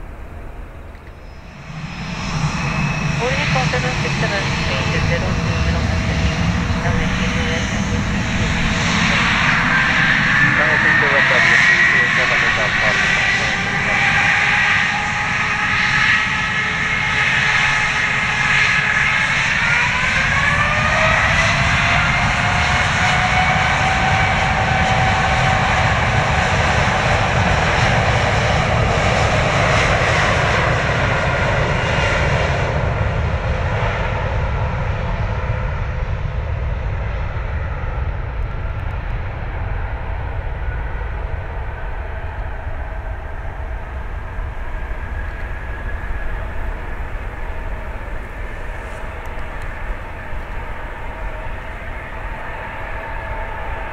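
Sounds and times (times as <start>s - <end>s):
jet engines whining: 0.0s - 53.9s.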